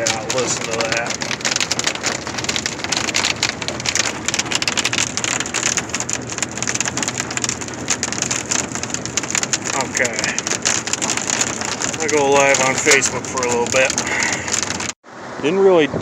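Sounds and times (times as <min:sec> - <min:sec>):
hail and rain on truck roof: 0:00.0 - 0:15.4.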